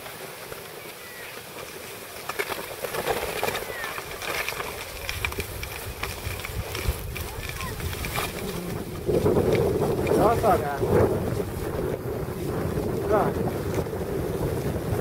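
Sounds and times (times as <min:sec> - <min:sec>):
skis scraping over packed snow: 0:00.0 - 0:15.0
wind rumbling on microphone: 0:00.0 - 0:15.0.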